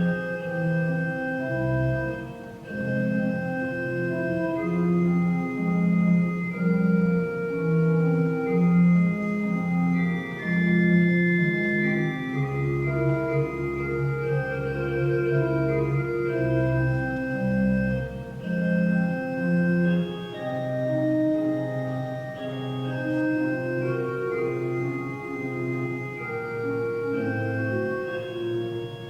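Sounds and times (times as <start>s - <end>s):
church organ chords: 0.0s - 29.0s
deep organ pedal bass notes: 0.0s - 29.0s.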